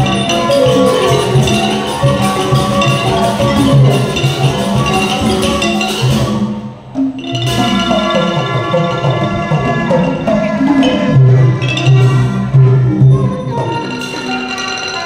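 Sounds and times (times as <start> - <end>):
gong circles ringing: 0.0 - 15.0
pitched percussion ensemble: 0.0 - 15.0.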